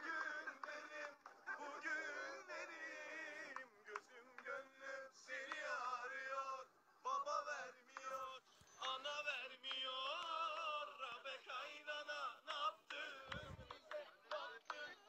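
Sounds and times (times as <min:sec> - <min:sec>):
men singing together: 0:00.0 - 0:15.0.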